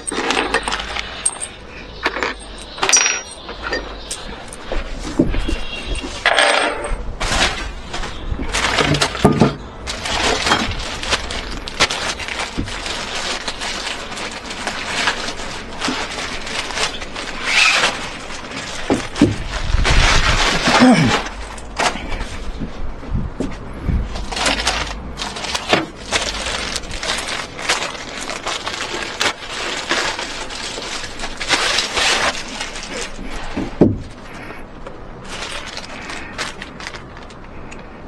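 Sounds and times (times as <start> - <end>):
rustling: 0.0 - 38.0.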